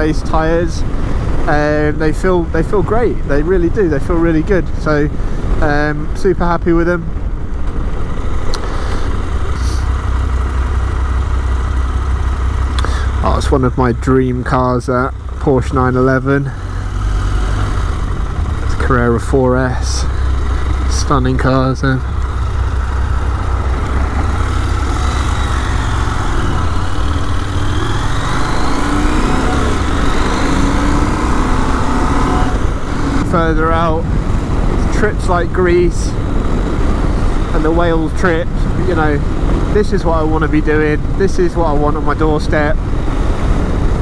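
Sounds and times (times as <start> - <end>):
motorcycle engine rumble: 0.0 - 44.0.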